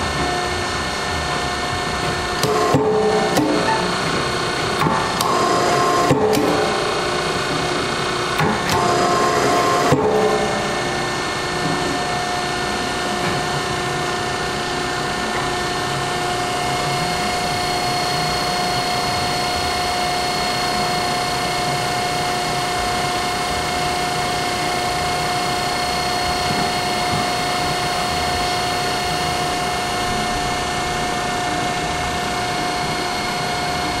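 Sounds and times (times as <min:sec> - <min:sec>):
log splitter motor humming: 0:00.0 - 0:34.0
thin whine: 0:02.2 - 0:34.0.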